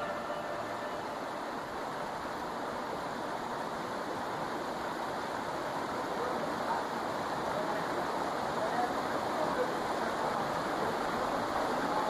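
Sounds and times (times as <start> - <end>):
shallow water flowing: 0.0 - 12.0.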